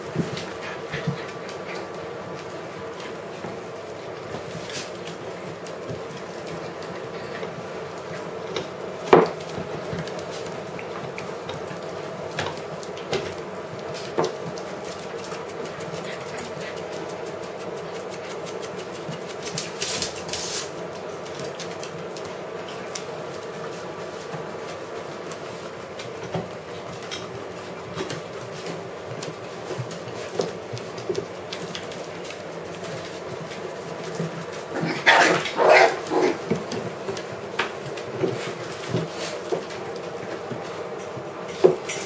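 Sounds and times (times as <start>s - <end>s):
puppies playing on tiled floor: 0.0s - 42.0s.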